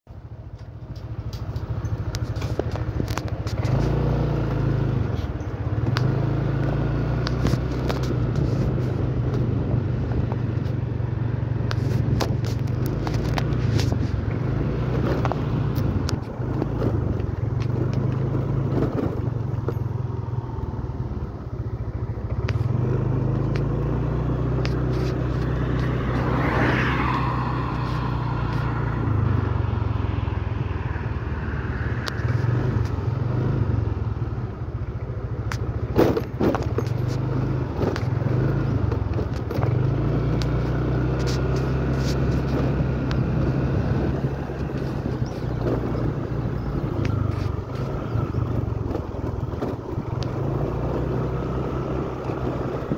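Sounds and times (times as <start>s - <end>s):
small motorcycle engine riding: 0.1s - 52.9s.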